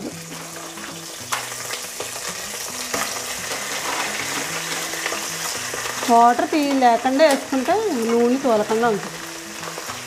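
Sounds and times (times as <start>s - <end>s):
crabs sizzling in oil: 0.0s - 10.0s.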